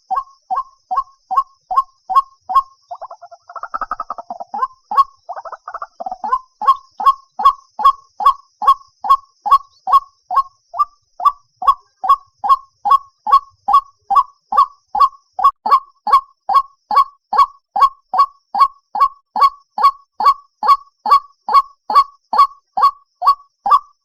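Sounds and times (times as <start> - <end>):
bird hoarse repeated calls: 0.0 - 24.0.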